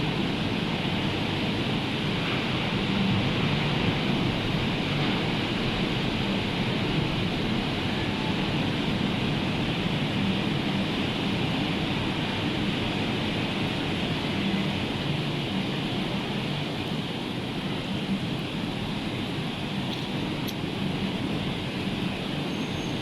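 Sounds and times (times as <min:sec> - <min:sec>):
sea surf and rain rushing: 0:00.0 - 0:23.0.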